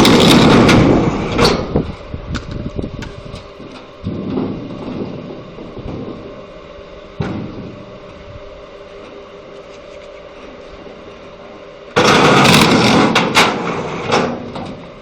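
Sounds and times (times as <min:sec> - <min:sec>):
log splitter machine hum: 0:00.0 - 0:15.0.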